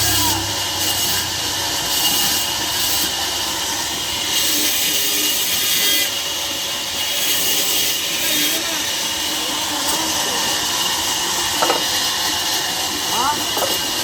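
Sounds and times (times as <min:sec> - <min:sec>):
saw cutting through a log: 0:00.0 - 0:14.0.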